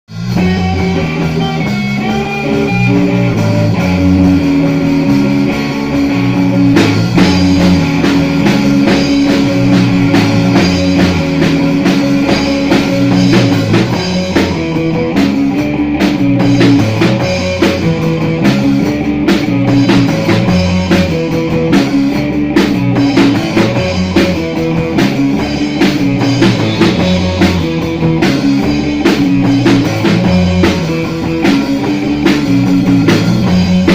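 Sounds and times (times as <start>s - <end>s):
bass guitar: 0.0s - 33.9s
drum kit: 0.1s - 33.9s
electric guitar: 0.1s - 33.9s.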